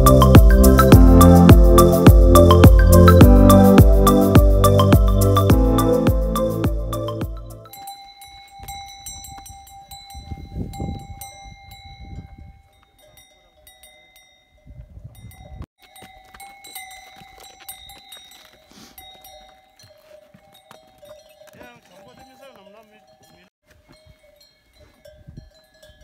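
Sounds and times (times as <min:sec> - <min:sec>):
animal bells ringing: 0:00.0 - 0:26.0.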